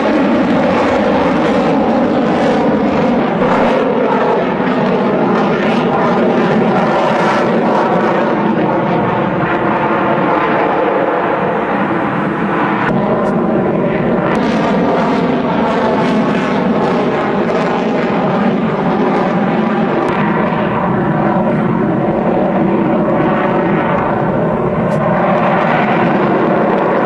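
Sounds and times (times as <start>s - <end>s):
fighter jet engine roaring: 0.0s - 27.0s.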